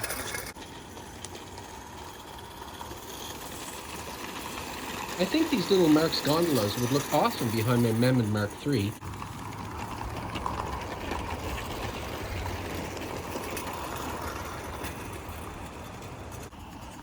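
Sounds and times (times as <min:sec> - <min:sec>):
metal wheels clattering on rails: 0:00.0 - 0:17.0.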